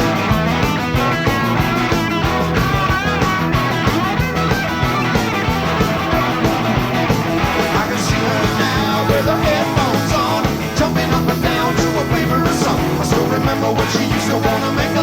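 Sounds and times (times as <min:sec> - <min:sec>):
bass guitar: 0:00.0 - 0:15.0
drums: 0:00.0 - 0:15.0
electric guitars: 0:00.0 - 0:15.0.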